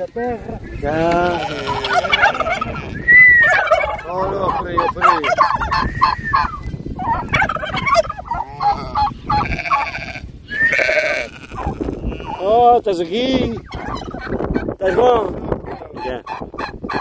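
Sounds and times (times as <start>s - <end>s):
turkeys gobbling: 0.5s - 10.0s, 11.5s - 17.0s.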